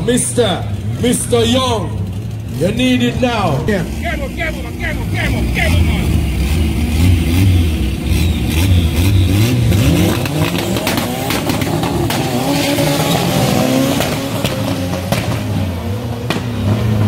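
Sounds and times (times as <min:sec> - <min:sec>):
car engines revving and accelerating: 0:00.0 - 0:17.0.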